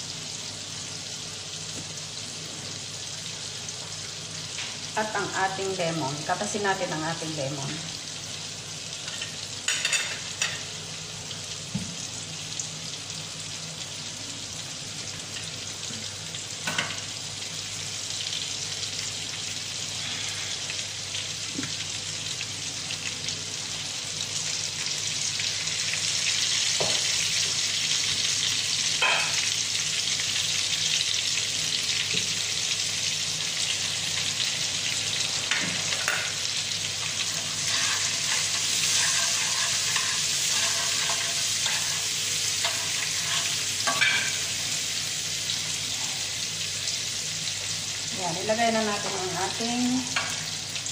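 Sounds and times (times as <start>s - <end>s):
sauce sizzling in a frying pan: 0.0s - 50.9s.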